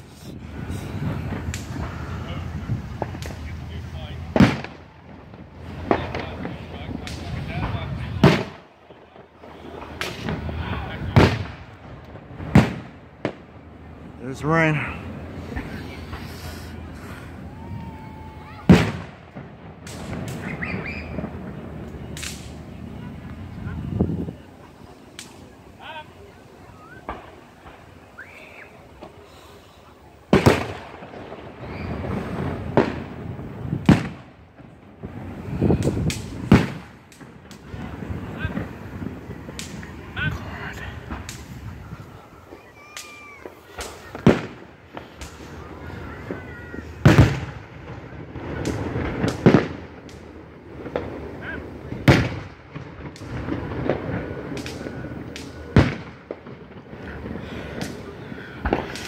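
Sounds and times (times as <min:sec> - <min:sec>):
firework shells bursting: 0:00.0 - 0:59.0.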